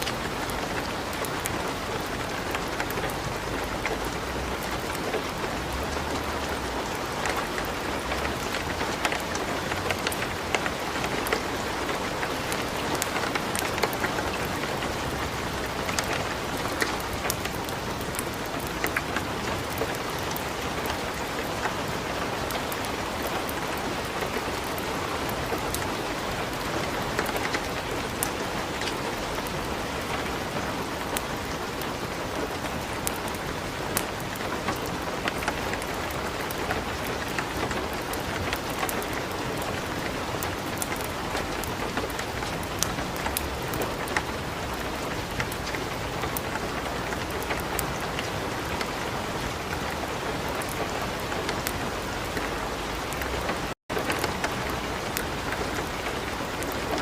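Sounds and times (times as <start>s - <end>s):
light rain: 0.0s - 57.0s
wood fire crackling: 0.0s - 57.0s.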